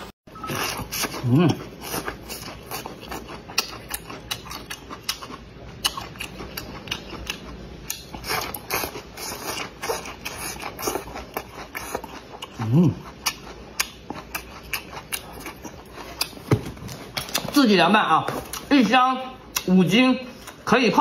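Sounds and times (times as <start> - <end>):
wet crisp chewing crunches: 0.4 - 20.7.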